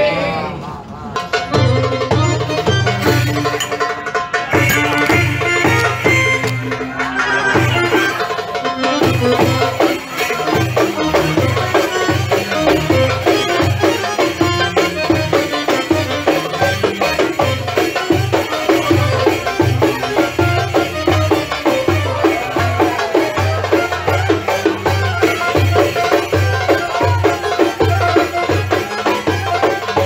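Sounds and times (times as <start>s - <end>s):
folk music: 0.8s - 30.0s
steady drum beat: 1.5s - 30.0s.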